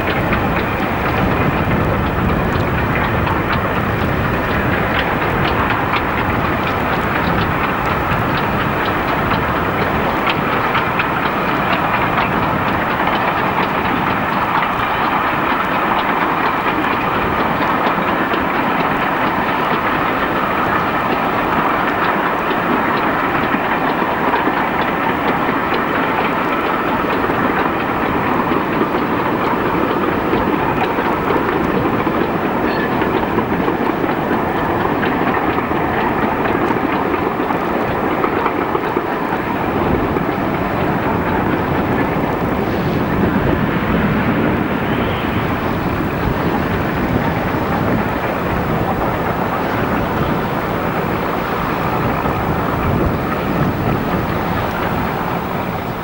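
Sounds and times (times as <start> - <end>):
steam train running rumble: 0.0 - 56.0
wheels clacking over rail joints: 0.0 - 56.0.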